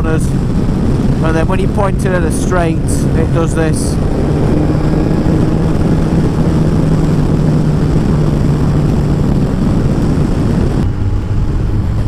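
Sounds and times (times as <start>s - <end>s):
motorcycle engine at full throttle: 0.0s - 12.0s
wind noise on microphone: 0.0s - 12.0s.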